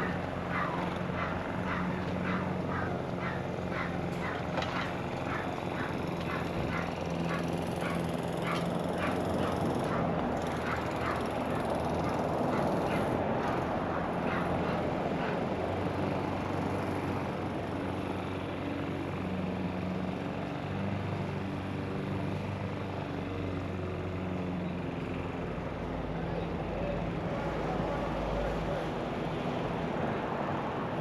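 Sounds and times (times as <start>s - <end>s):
engine drone: 0.0s - 31.0s.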